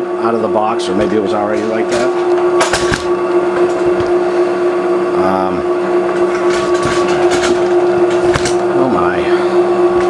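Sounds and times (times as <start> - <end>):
drill press humming with whine: 0.0 - 10.0.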